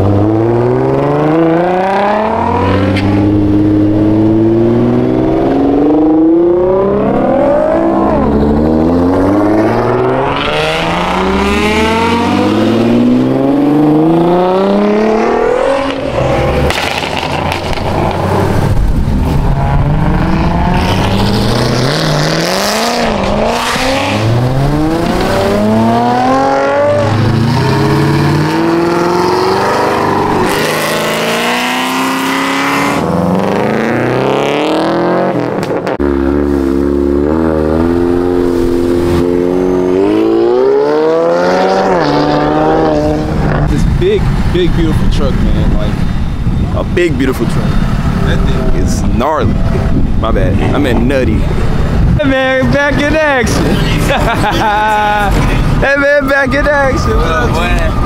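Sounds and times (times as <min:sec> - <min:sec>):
sports car engines revving: 0:00.0 - 0:58.0.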